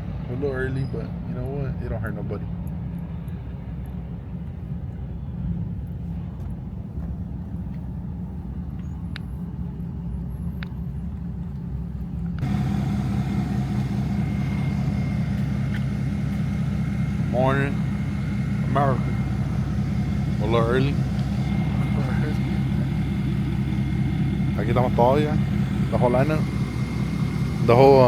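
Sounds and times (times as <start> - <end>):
truck engine rumbling: 0.0 - 28.0.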